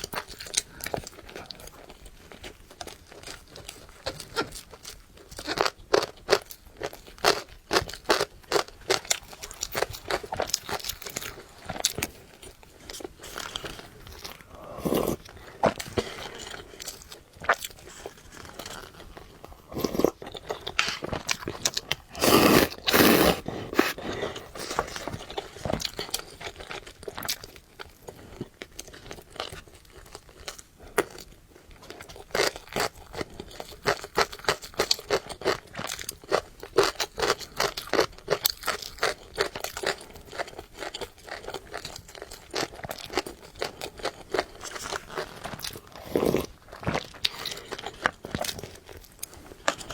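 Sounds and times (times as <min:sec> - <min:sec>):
person chewing noodles: 0:00.0 - 0:49.9.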